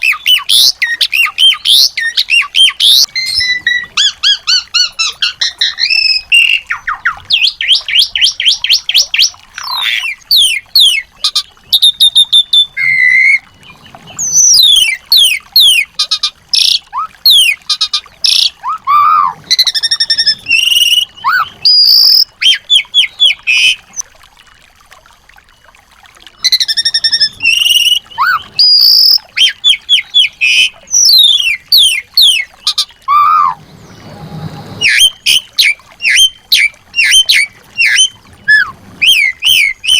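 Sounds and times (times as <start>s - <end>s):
small songbirds chirping and trilling: 0.0s - 24.0s, 26.4s - 39.9s.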